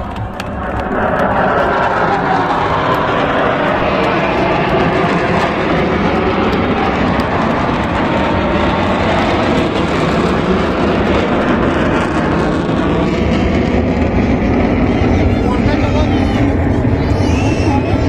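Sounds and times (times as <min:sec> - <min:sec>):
aircraft flying past: 0:00.0 - 0:18.0.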